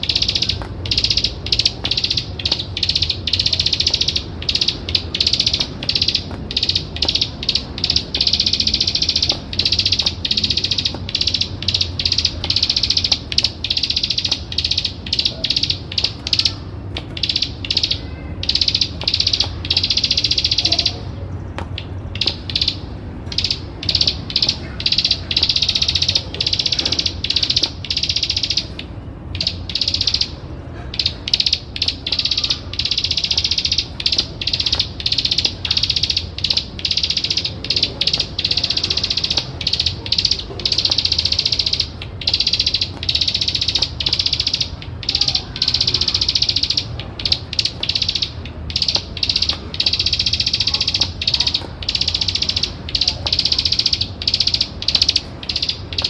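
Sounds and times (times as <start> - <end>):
bird singing rattling trills: 0.0 - 56.0
steady low hum: 0.0 - 56.0.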